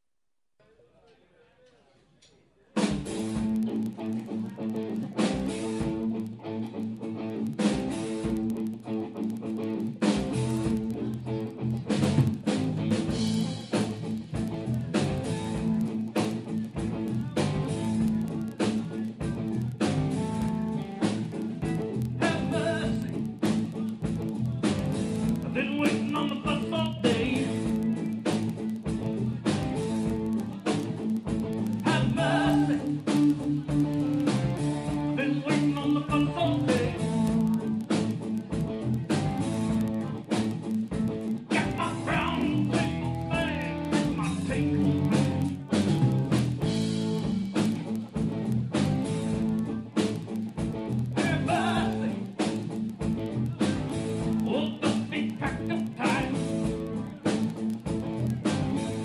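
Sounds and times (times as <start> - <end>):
blues rock band playing live: 2.8 - 59.0.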